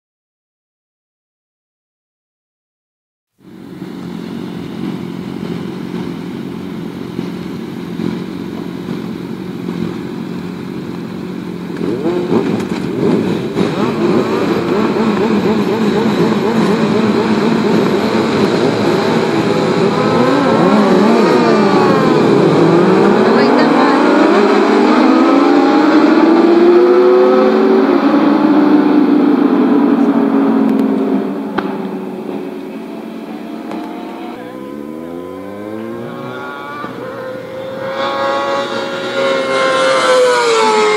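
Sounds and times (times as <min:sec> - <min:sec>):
motorcycles idling: 0:03.4 - 0:25.1, 0:27.5 - 0:40.9
motorcycle engines revving: 0:03.4 - 0:40.9.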